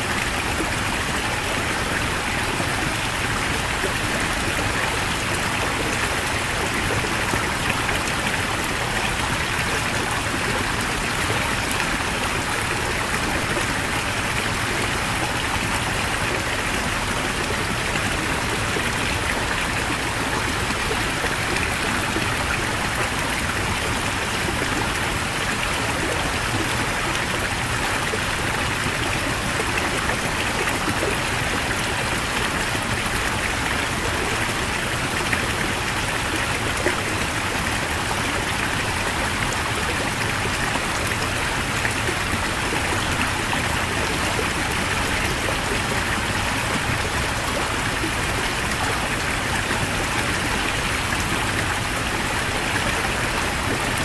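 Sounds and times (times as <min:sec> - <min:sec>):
fast-flowing mountain stream: 0:00.0 - 0:54.0.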